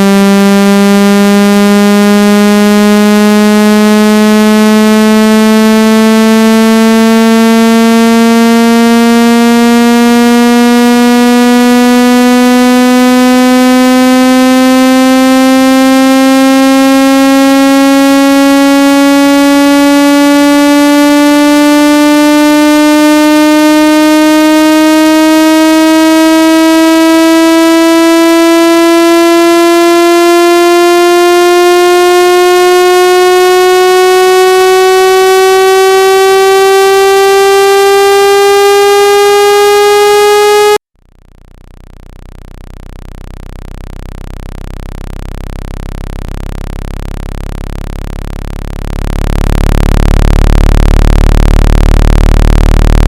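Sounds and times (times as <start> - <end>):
buzzy synthesized tone rising in pitch: 0.0 - 53.0.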